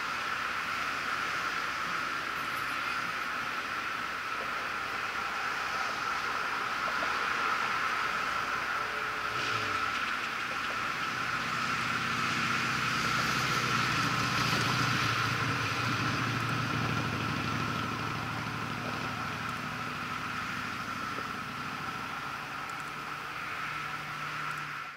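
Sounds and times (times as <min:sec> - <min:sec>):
constant hiss: 0:00.0 - 0:24.9
engine running: 0:00.0 - 0:24.9.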